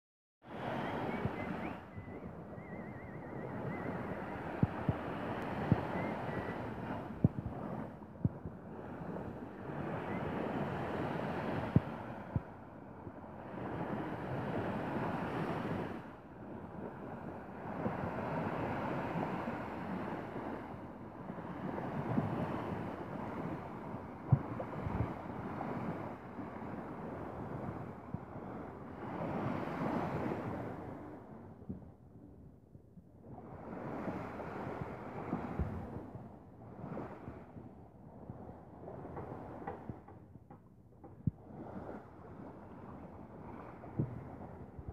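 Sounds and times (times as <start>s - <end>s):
wind buffeting microphone: 0.4s - 44.9s
small waves washing onto sand: 3.3s - 31.2s, 33.4s - 40.0s, 41.4s - 44.9s.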